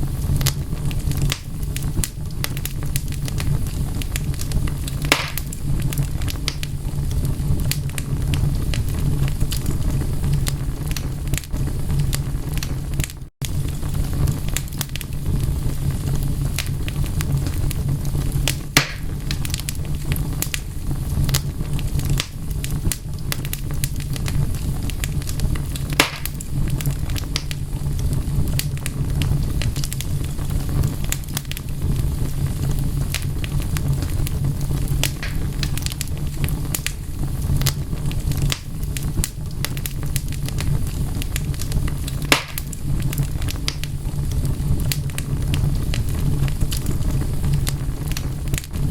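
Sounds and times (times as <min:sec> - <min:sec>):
loud sharp fire pops: 0:00.0 - 0:48.9
low fire rumble: 0:00.0 - 0:48.9
wood fire crackling: 0:00.0 - 0:48.9.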